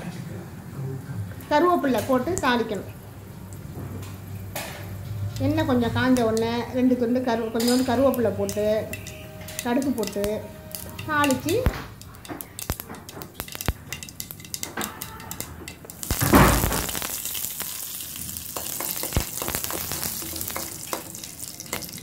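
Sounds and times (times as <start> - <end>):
leaves sizzling in oil: 0.7 - 22.0
seeds popping in hot oil: 1.8 - 22.0.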